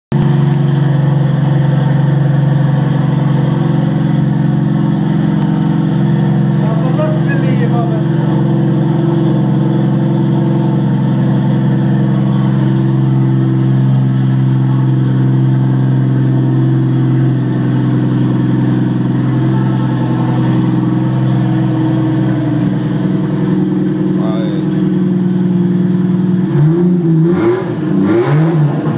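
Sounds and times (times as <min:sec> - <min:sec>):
car engine idling: 0:00.1 - 0:28.9.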